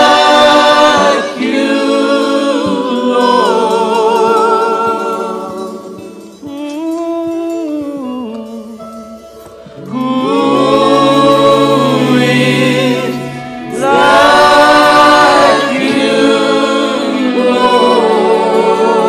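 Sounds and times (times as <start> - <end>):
choir singing in harmony: 0.0 - 6.5, 9.7 - 19.0
gospel soloist singing: 0.0 - 19.0.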